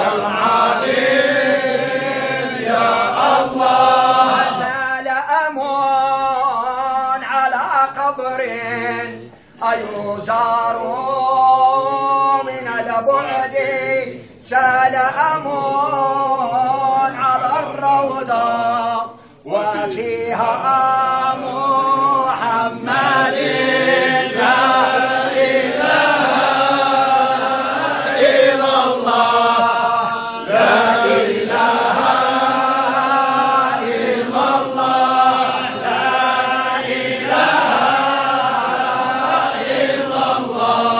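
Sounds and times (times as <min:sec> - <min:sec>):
men chanting a hymn: 0:00.0 - 0:40.9.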